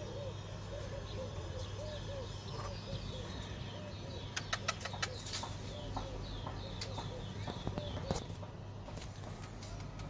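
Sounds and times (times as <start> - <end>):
bird cooing: 0.0 - 8.5
small birds chirping: 0.0 - 10.0
steady low hum: 0.0 - 10.0.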